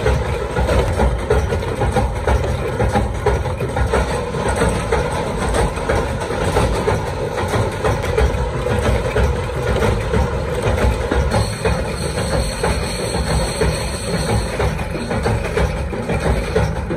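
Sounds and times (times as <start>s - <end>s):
low machine rumble: 0.0s - 16.9s
machine rapid mechanical clatter: 0.0s - 16.9s.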